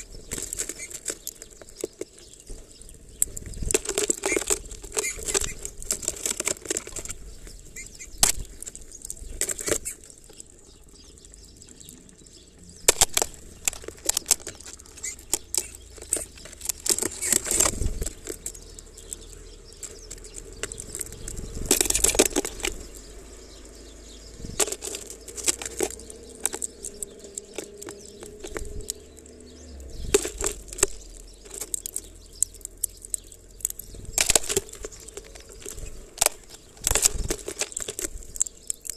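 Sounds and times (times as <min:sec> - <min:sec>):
seeds and claws clicking on plastic: 0:00.0 - 0:38.9.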